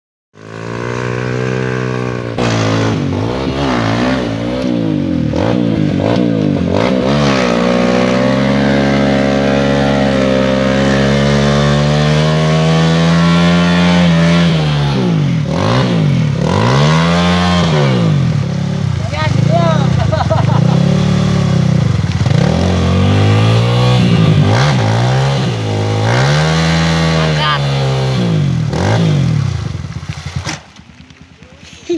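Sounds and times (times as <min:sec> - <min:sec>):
motorcycle engine revving: 0:00.4 - 0:31.6.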